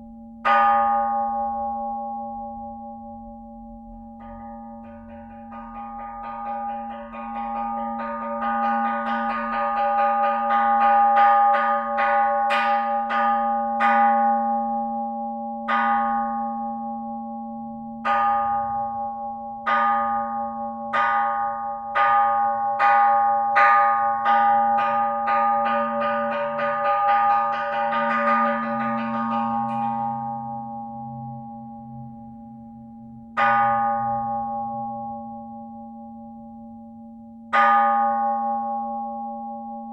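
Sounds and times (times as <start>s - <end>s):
temple bell ringing: 0.0s - 39.9s.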